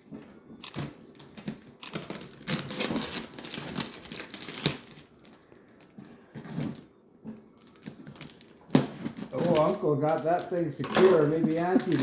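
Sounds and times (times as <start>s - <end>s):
packaging crinkling and tearing: 0.6s - 6.9s, 7.6s - 12.0s.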